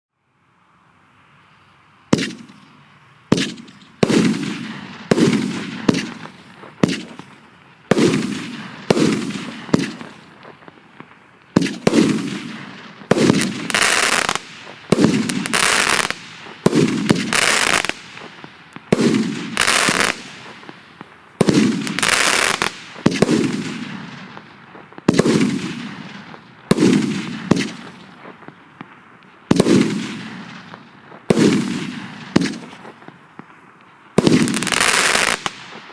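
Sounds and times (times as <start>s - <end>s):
firework crackle and hiss: 0.4s - 35.9s
firework bangs: 2.1s - 35.9s.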